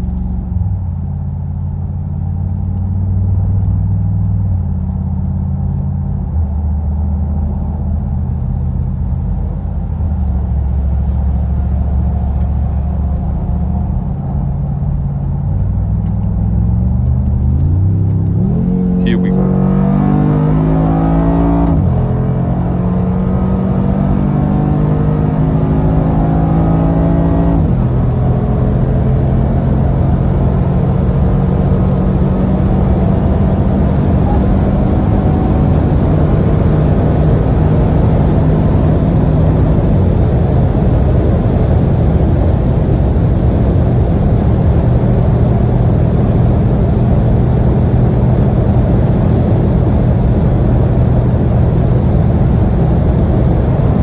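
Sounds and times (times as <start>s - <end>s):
car engine accelerating hard: 0.0s - 54.0s
road and wind noise: 0.0s - 54.0s.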